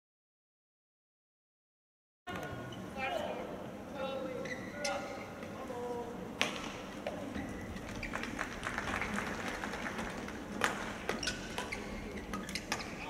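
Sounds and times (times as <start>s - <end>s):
crowd murmur in sports hall: 2.3s - 13.0s.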